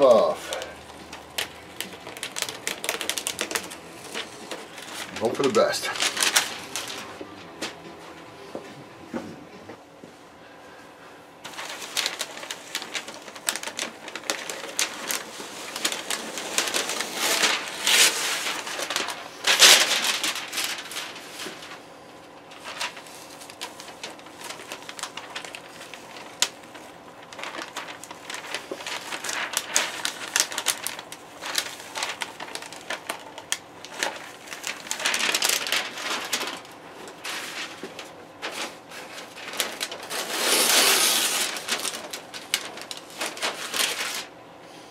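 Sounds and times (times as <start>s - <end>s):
paper crinkling and rustling: 0.0s - 8.8s, 11.4s - 44.9s.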